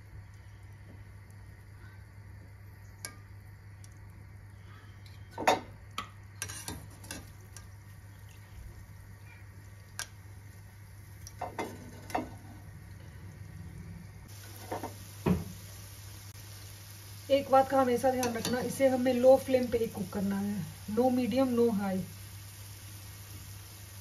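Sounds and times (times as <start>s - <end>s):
oil sizzling: 0.0s - 24.0s.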